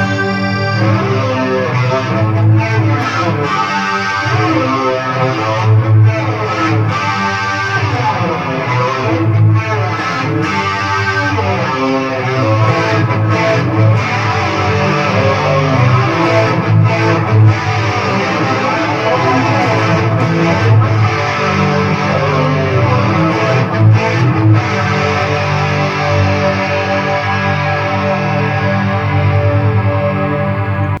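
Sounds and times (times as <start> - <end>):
guitars plucked and strummed: 0.0 - 30.9.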